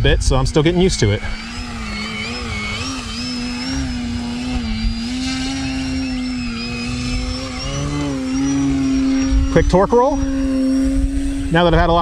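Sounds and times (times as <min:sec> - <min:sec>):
electric motor and propeller humming: 0:00.0 - 0:12.0.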